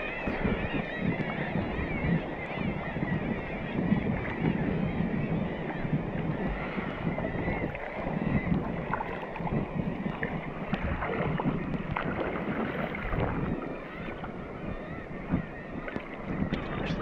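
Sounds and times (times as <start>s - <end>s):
sea water sloshing: 0.0s - 17.0s
seabirds calling: 0.0s - 17.0s
wind on microphone: 0.0s - 17.0s.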